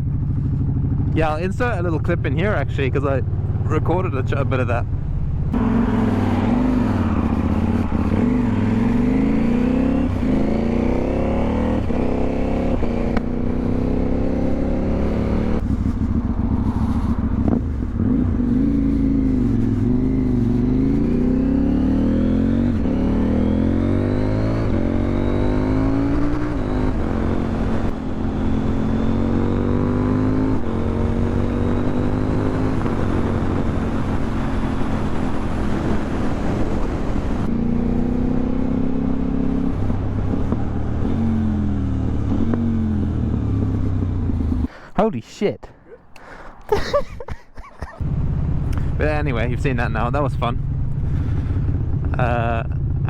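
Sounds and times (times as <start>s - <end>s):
motorcycle engine accelerating: 0.0s - 44.7s, 48.0s - 53.0s.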